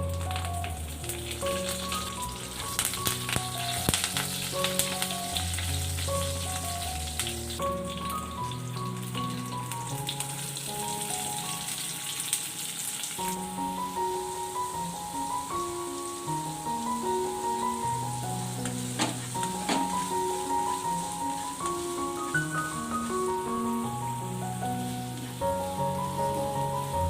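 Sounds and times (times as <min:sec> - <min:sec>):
background music melody: 0:00.0 - 0:27.0
food sizzling in hot oil: 0:00.0 - 0:27.0.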